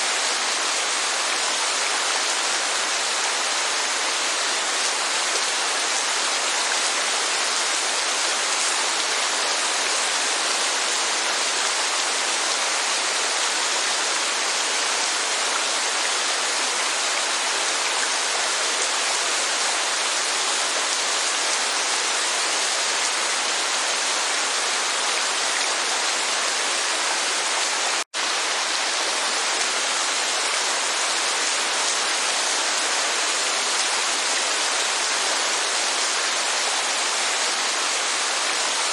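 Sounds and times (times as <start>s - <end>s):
rain and falling water: 0.0s - 38.9s.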